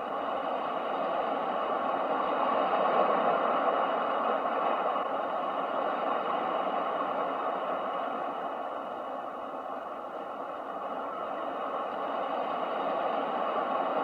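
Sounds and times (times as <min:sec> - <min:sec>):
ocean waves white noise: 0:00.0 - 0:14.0.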